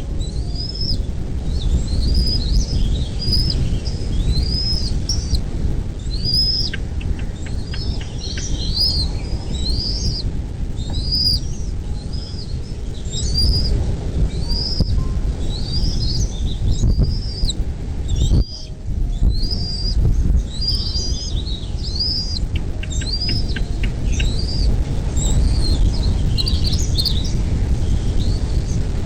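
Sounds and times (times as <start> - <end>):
birds chirping: 0.0 - 29.0
steady low rumble: 0.0 - 29.0.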